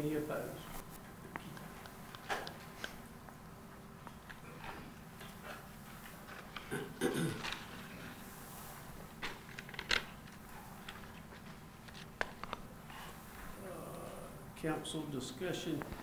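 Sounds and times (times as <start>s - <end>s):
faint clicks and rustles: 0.6s - 6.8s, 7.4s - 14.2s.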